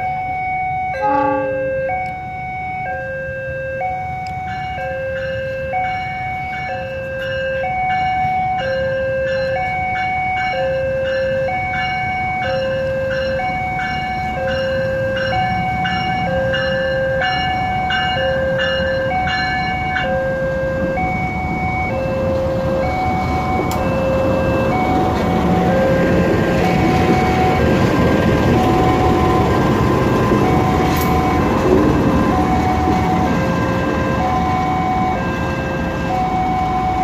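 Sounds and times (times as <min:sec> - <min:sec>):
passing train rumble: 0:00.0 - 0:37.0
two-tone crossing alarm: 0:00.0 - 0:37.0.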